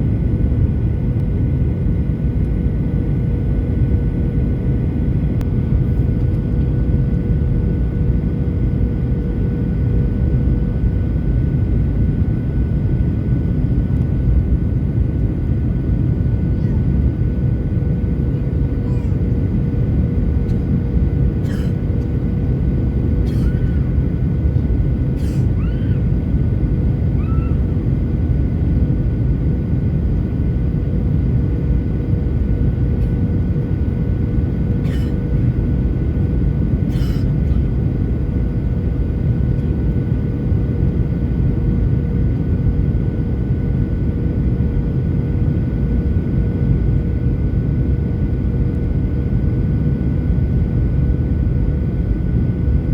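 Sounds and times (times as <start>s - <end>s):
airliner cabin roar: 0.0s - 52.9s
constant two-pitch hum: 0.0s - 52.9s.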